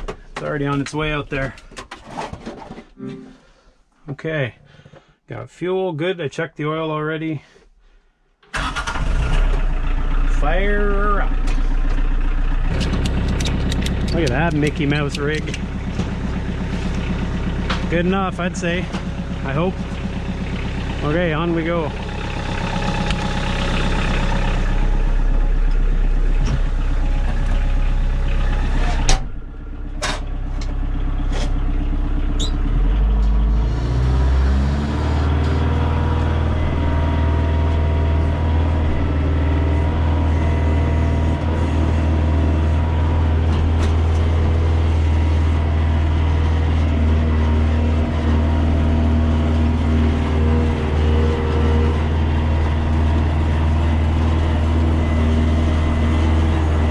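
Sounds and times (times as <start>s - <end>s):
tractor engine running: 10.9s - 56.9s.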